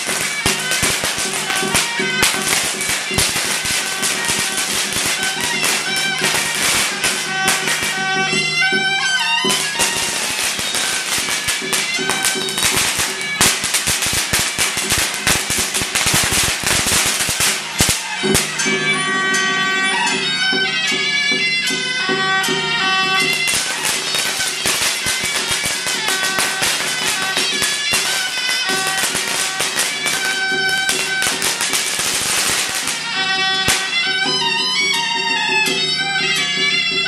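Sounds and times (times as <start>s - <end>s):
percussion: 0.0s - 37.0s
reed horn melody: 0.0s - 37.0s.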